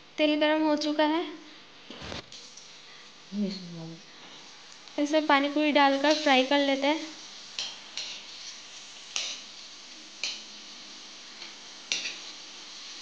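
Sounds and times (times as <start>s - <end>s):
dough frying in hot oil: 1.6s - 13.0s.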